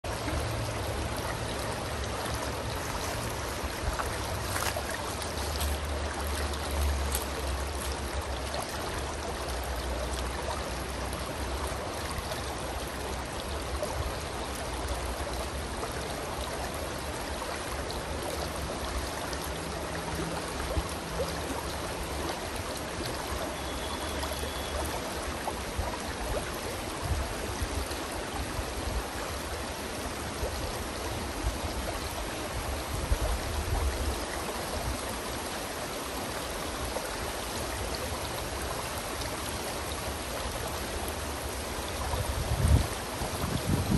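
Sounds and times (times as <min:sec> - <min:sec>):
stream flowing over stones: 0:00.0 - 0:43.9.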